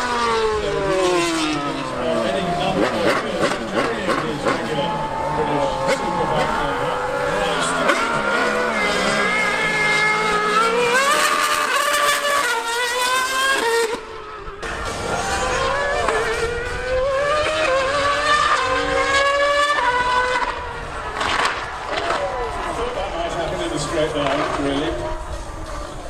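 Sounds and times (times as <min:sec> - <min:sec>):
racing engine accelerating: 0:00.0 - 0:26.0.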